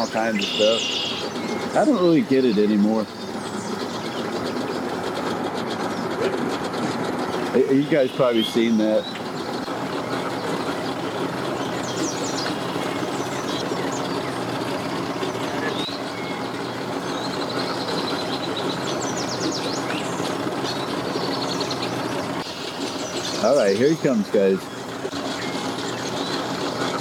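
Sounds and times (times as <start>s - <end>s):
birds chirping trills: 0.0s - 27.0s
engine humming: 0.0s - 27.0s.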